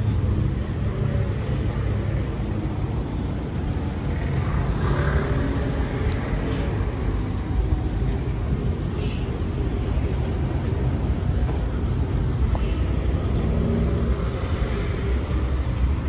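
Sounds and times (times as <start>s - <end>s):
buses passing with engine rumble: 0.0s - 16.0s.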